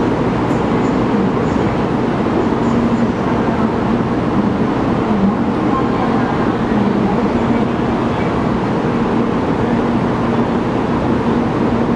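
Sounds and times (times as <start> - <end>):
low rumble of station platform: 0.0 - 11.9.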